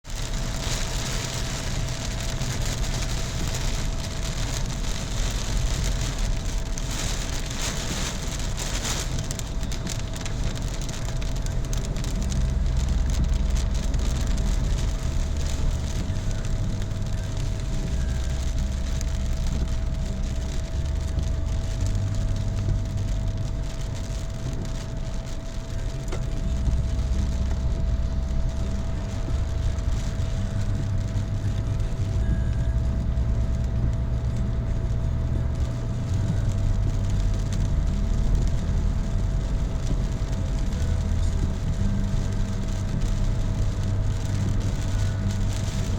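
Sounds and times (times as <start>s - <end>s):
heavy rain hissing: 0.0s - 45.9s
motor vehicle rumble: 0.0s - 45.9s
faint steady whine: 0.1s - 45.9s.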